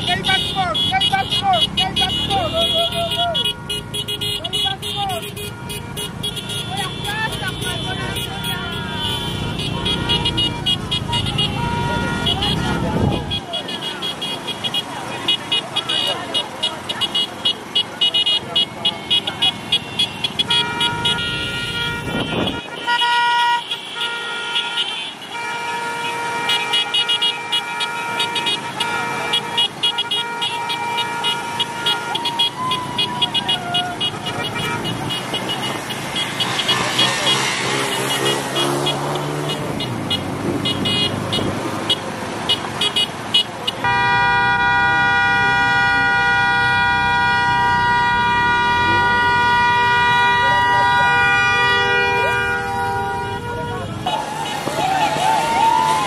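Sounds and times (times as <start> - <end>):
engine and road noise: 0.0 - 56.0
motorcycle horns honking: 0.0 - 56.0.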